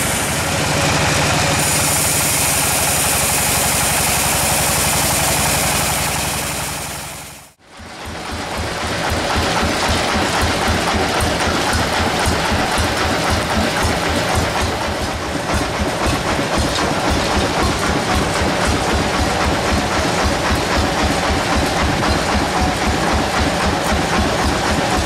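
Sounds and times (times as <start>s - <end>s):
engine chugging: 0.0s - 25.0s.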